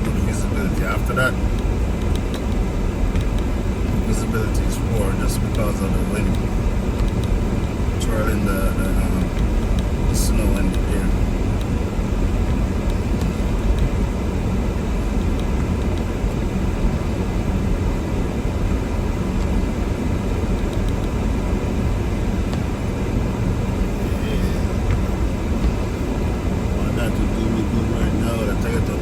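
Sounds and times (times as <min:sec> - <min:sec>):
low rumble of engine: 0:00.0 - 0:29.0
road noise: 0:00.0 - 0:29.0.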